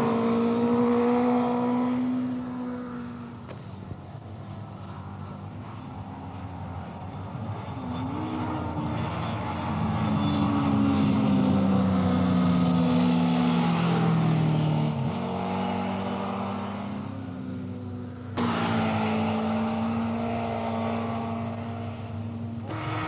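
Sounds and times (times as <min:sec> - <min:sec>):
racing motorcycles passing at speed: 0:00.0 - 0:23.0.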